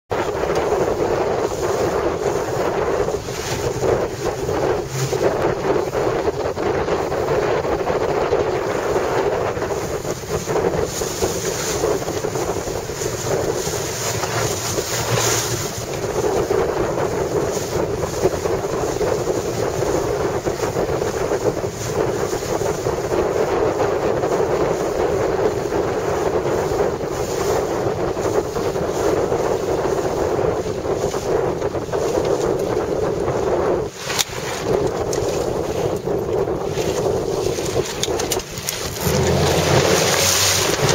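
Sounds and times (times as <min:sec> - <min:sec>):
choppy water splashing: 0:00.1 - 0:40.9
wind buffeting microphone: 0:00.1 - 0:40.9.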